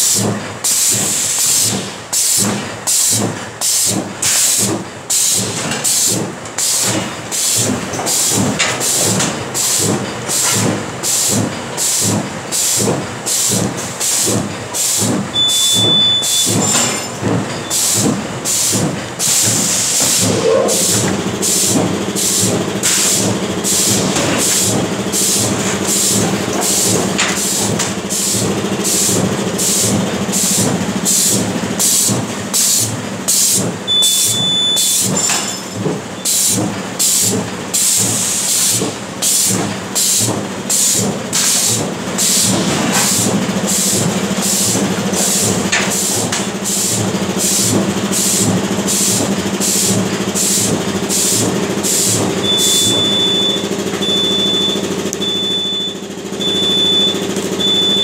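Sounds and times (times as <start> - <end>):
pneumatic cylinders hissing air: 0.0 - 53.7.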